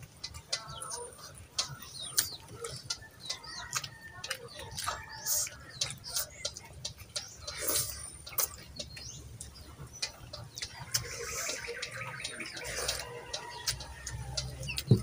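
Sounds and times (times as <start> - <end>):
chewing and mouth smacks: 0.3 - 15.0.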